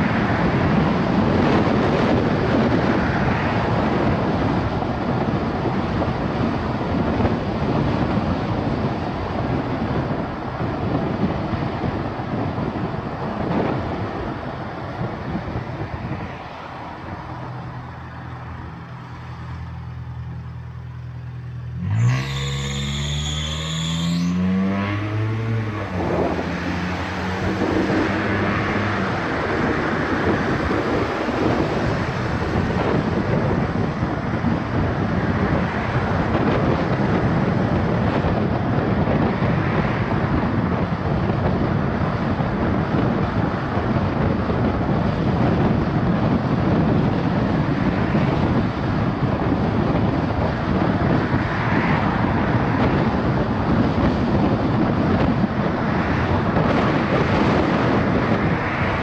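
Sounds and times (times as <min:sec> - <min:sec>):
car road and wind noise: 0:00.0 - 0:59.0.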